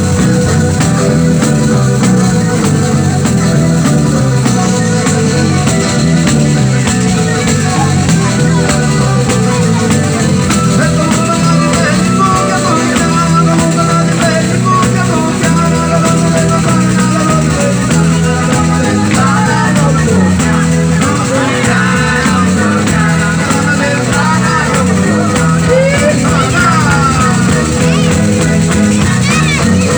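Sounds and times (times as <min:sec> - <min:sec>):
folk band playing fast rhythm: 0:00.0 - 0:29.9.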